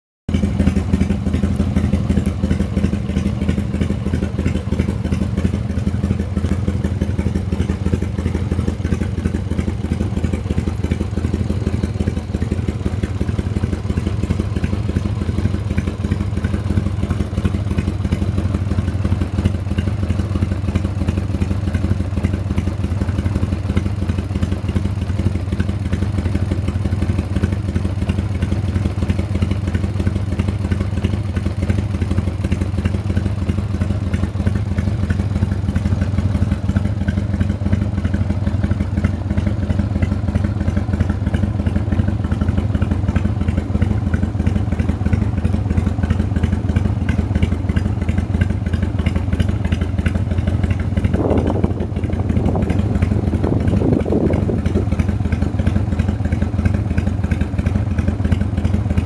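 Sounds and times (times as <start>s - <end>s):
motorcycle engine idling: 0.3s - 59.0s.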